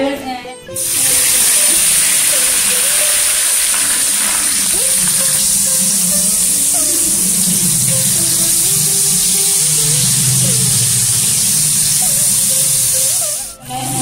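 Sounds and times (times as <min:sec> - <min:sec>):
oil sizzling in a pan: 0:00.7 - 0:14.0.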